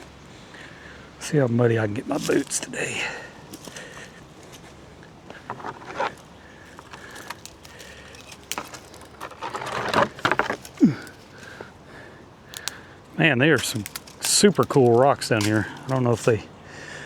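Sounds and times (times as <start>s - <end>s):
brush rustling: 0.0s - 17.0s
footsteps on rocks and mud: 1.8s - 16.5s.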